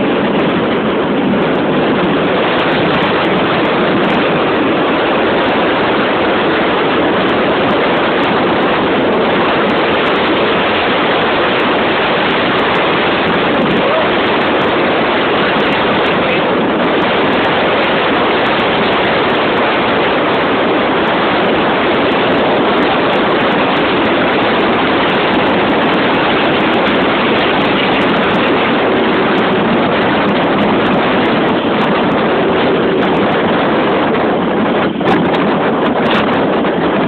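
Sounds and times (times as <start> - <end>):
vehicle rushing noise: 0.0 - 37.0
wind on microphone: 0.0 - 37.0.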